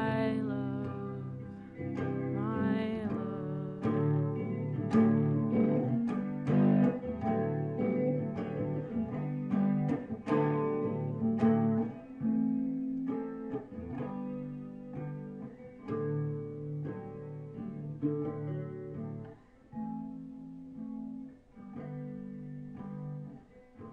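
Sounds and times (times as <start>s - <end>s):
guitar picking chords: 0.0s - 23.9s.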